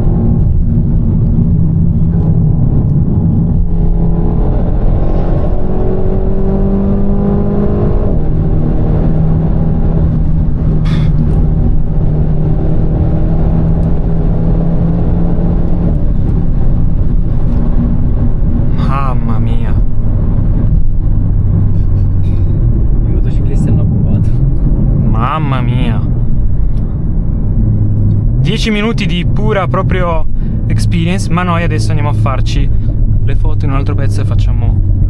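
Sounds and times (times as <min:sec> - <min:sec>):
car engine driving: 0:00.0 - 0:35.0
road noise: 0:00.0 - 0:35.0.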